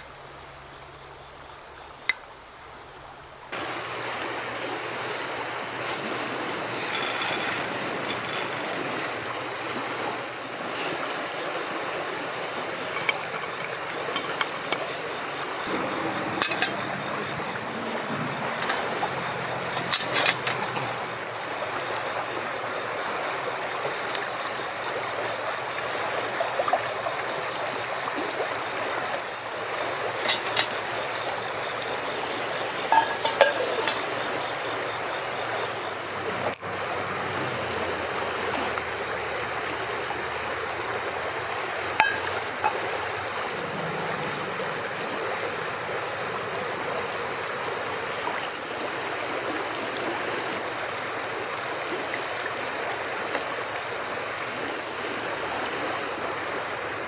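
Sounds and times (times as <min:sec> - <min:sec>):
flowing water rushing: 0:01.4 - 0:57.0.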